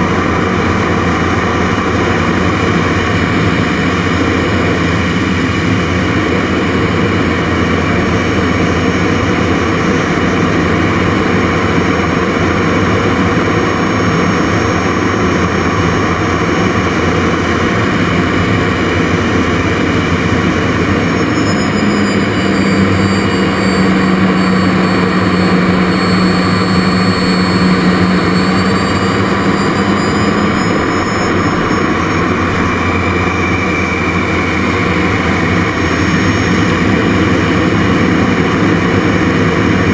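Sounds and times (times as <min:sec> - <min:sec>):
jet engine roar with whine: 0:00.0 - 0:39.9
low hum: 0:00.0 - 0:39.9.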